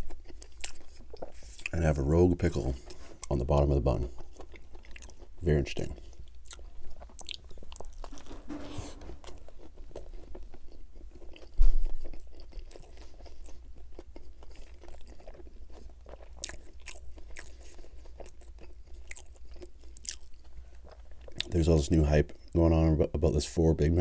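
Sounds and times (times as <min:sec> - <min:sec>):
chewing and crunching burger: 0:00.0 - 0:22.7.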